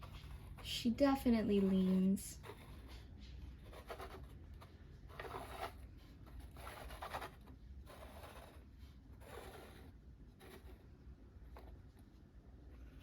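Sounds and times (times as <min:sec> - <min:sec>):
plastic figure rubbing and scraping: 0:00.0 - 0:13.0.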